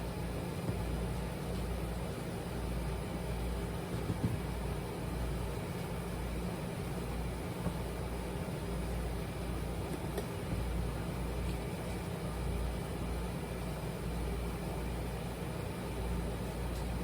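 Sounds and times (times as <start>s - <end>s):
whirring hum with hiss: 0.0s - 17.0s.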